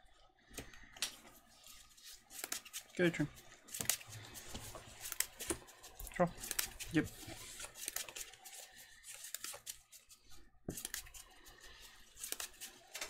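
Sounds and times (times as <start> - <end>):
trading cards rustling and tapping: 1.0 - 13.0.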